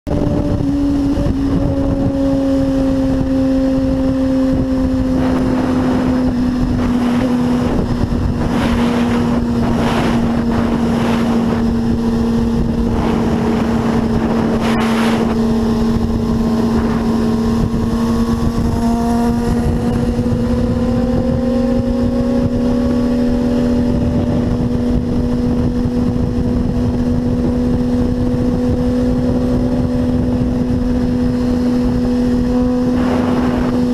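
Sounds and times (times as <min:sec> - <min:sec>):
vehicle engine droning at speed: 0:00.0 - 0:33.9
wind rushing over microphone: 0:00.0 - 0:33.9.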